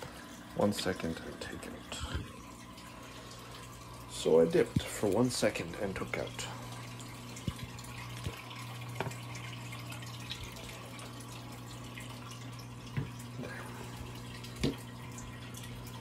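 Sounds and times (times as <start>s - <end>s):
aquarium filter hum: 0.0s - 16.0s
water trickling: 0.0s - 16.0s.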